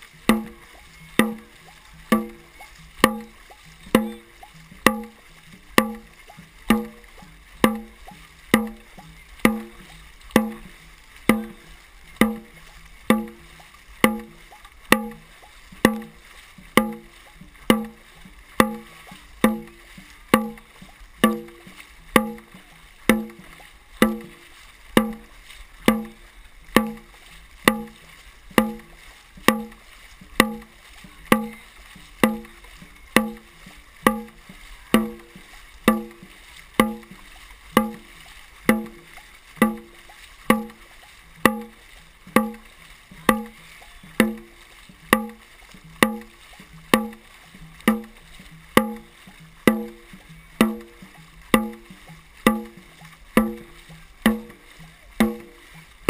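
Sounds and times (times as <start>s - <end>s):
drum beaten in steady rhythm: 0.0s - 56.0s.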